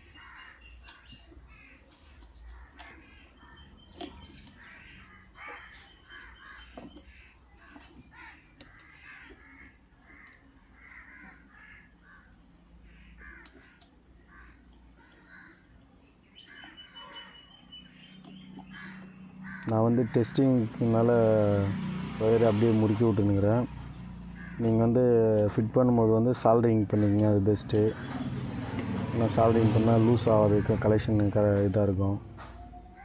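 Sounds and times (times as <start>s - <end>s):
faint bird calls: 0.0s - 33.0s.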